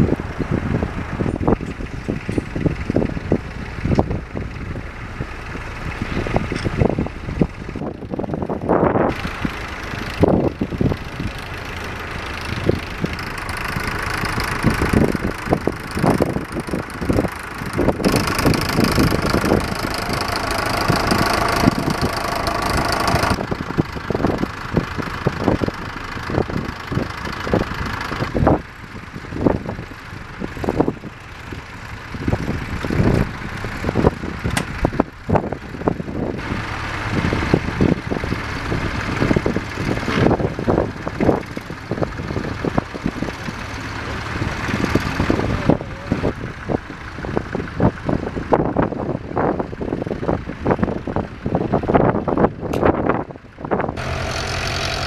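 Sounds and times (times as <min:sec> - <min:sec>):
tractor engines running: 0:00.0 - 0:55.0.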